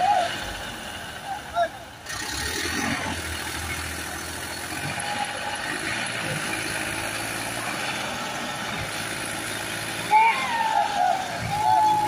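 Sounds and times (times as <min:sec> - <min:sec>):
tractor diesel engine straining: 0:00.0 - 0:12.0.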